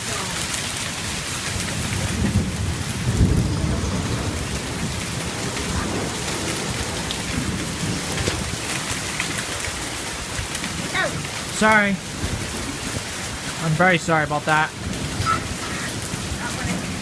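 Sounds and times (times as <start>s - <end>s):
heavy rain pouring: 0.0s - 17.0s
low thunder rumble: 0.4s - 17.0s.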